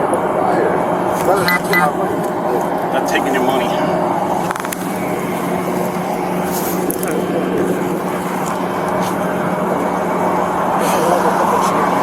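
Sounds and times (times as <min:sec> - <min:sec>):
road noise: 0:00.0 - 0:12.0
vehicle engine hum: 0:00.0 - 0:12.0.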